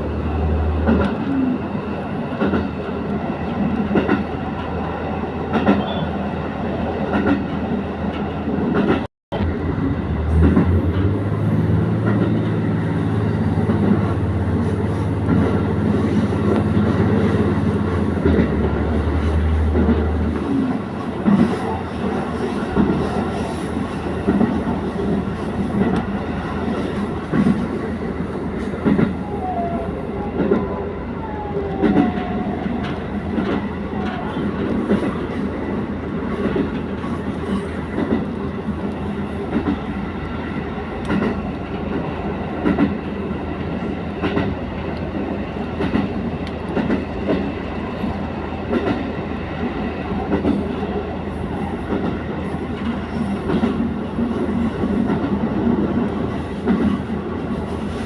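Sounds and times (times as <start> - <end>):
diesel train rumbling: 0.0 - 58.0.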